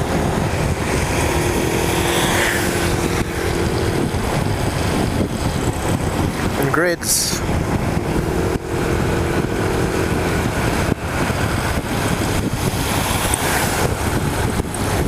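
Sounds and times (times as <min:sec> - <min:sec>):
motorcycle engine: 0:00.0 - 0:15.0
rushing air noise: 0:00.0 - 0:15.0.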